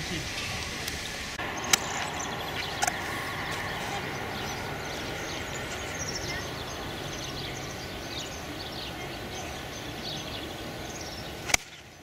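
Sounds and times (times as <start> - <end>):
small birds chirping: 0.0 - 12.0
steady background noise: 0.0 - 12.0.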